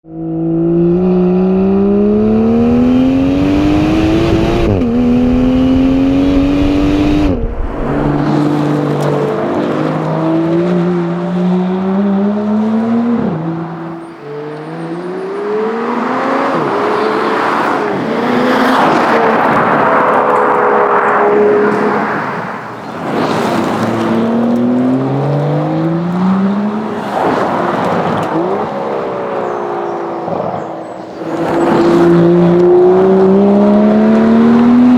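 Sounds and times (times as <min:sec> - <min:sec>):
car engine accelerating hard: 0:00.0 - 0:34.9.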